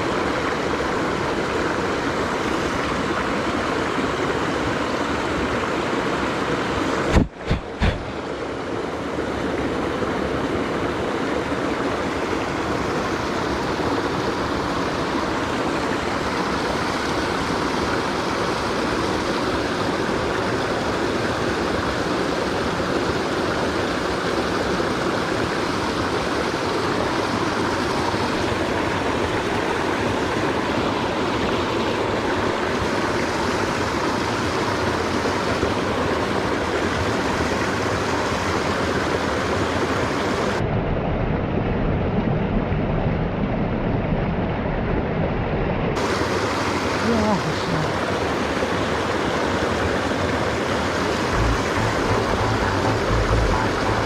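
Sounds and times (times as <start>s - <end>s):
stream rushing over rocks: 0.0s - 40.6s, 46.0s - 54.0s.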